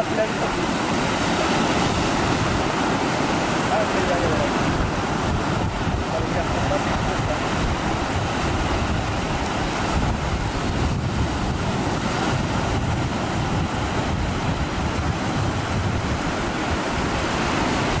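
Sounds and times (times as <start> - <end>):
ocean surf breaking: 0.0 - 18.0
wind rumbling on microphone: 0.0 - 18.0.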